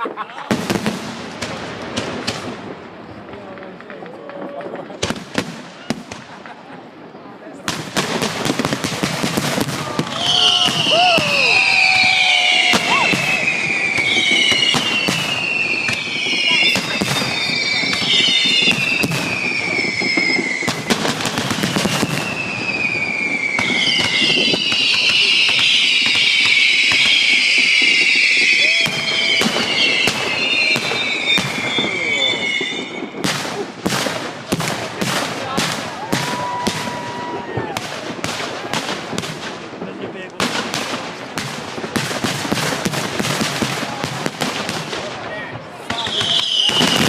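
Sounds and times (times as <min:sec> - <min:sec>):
firework bangs: 0:00.0 - 0:47.0
whistling fireworks screaming: 0:00.0 - 0:47.0.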